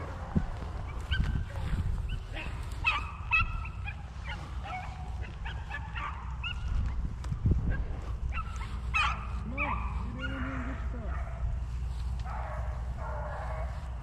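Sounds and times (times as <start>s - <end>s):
hounds baying: 0.0s - 14.0s
steady low rumble: 0.0s - 14.0s.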